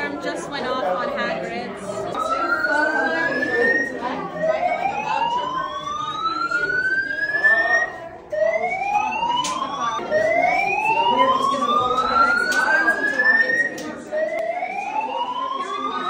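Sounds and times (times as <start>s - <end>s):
fire alarm whooping: 1.9s - 16.0s.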